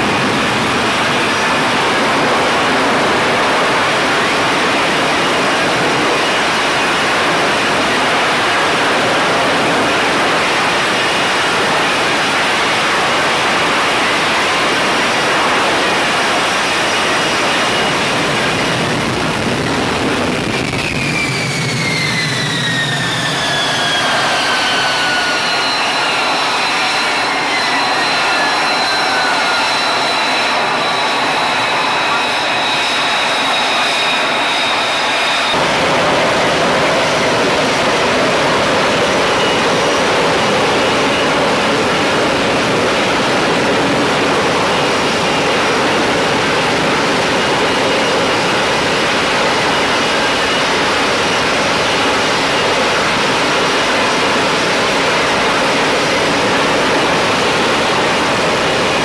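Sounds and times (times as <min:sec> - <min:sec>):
engine whines falling in pitch: 0:00.0 - 0:59.0
jet engine roaring: 0:00.0 - 0:59.0.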